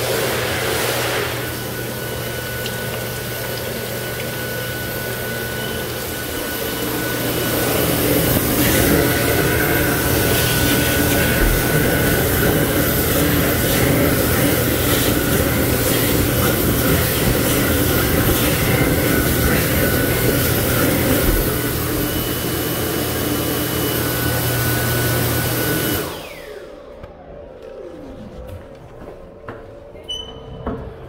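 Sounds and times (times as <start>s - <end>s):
hand dryer blowing with whine: 0.0s - 29.6s.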